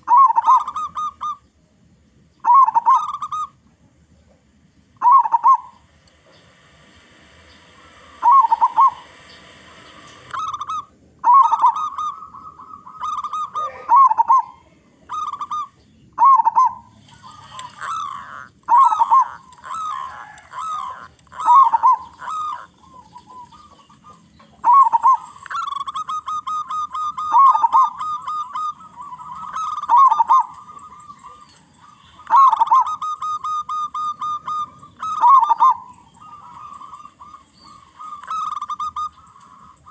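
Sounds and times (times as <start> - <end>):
doves cooing: 0.0 - 1.6, 2.4 - 39.9.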